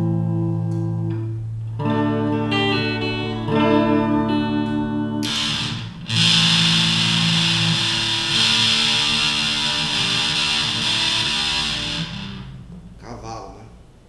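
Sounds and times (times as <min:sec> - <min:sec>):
fuzzed electric guitar chords: 0:00.0 - 0:12.9.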